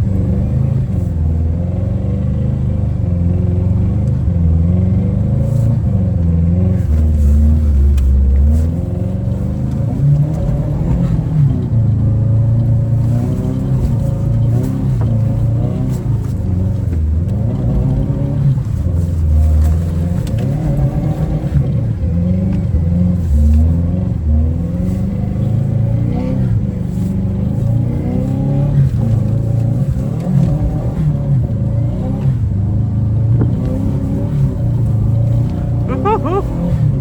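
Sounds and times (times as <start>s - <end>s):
car engine revving while driving: 0.0s - 37.0s.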